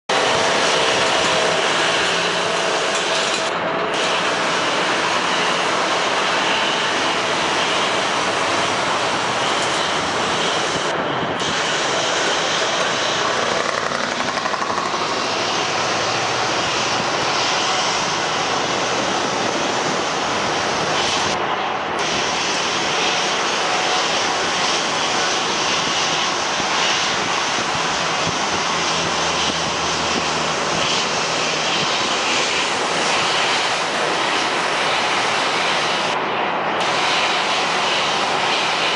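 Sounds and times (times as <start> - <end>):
jet airliner engines rushing: 0.0 - 38.9.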